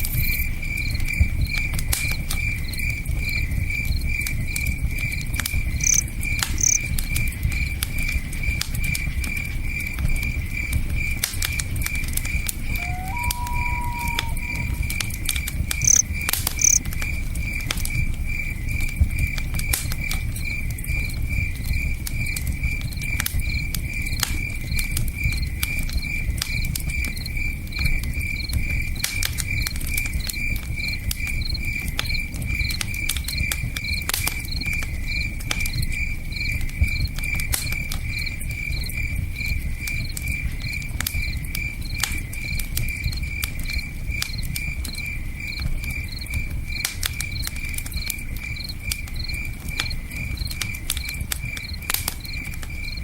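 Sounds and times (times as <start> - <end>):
crickets chirping: 0.0 - 11.2, 11.9 - 53.0
campfire crackling: 0.0 - 53.0.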